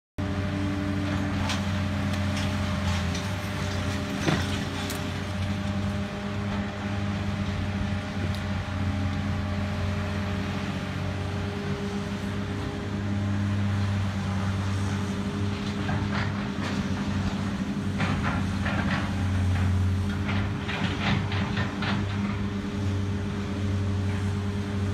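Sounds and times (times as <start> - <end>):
excavator diesel engine running: 0.2 - 24.9.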